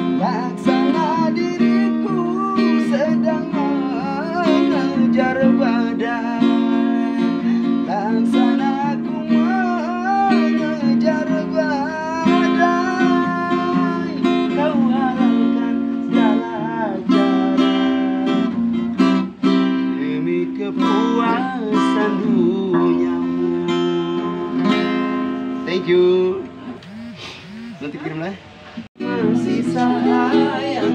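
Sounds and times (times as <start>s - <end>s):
person singing: 0.0s - 18.6s, 20.0s - 25.8s, 29.0s - 30.9s
acoustic guitar strumming: 0.0s - 30.9s.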